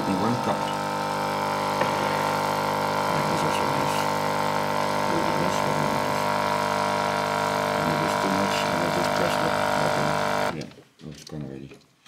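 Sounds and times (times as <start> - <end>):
espresso machine humming: 0.0 - 10.5.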